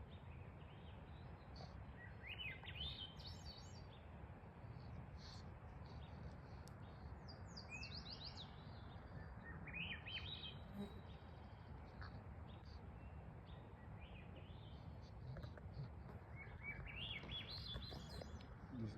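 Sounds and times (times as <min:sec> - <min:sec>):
outdoor background noise: 0:00.0 - 0:18.9
songbirds chirping: 0:00.0 - 0:18.9.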